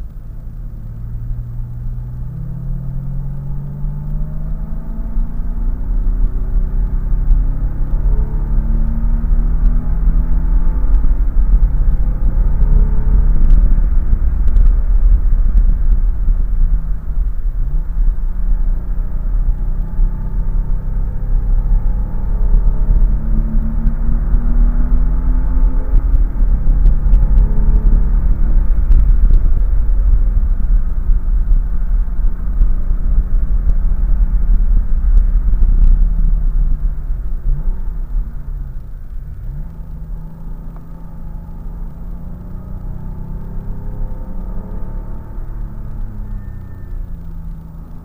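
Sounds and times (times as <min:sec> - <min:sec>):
car engine under hard driving: 0:00.0 - 0:48.0
wind and road rumble: 0:00.0 - 0:48.0.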